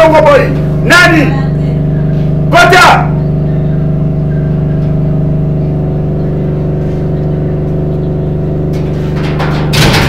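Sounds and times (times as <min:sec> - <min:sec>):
engine droning steadily: 0:00.0 - 0:10.0.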